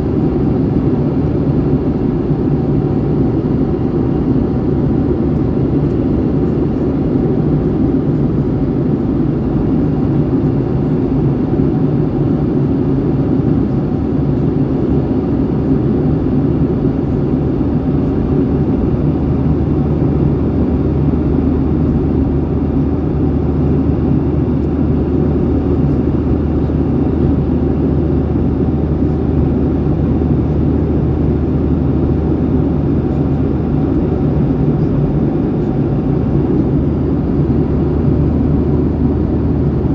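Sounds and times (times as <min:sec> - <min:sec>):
jet engine cabin roar: 0:00.0 - 0:39.9.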